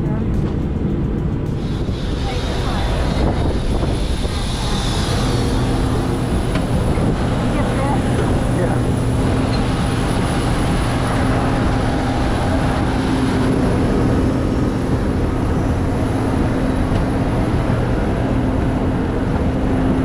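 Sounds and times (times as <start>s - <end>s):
airliner turbine machinery drone: 0.0s - 20.0s.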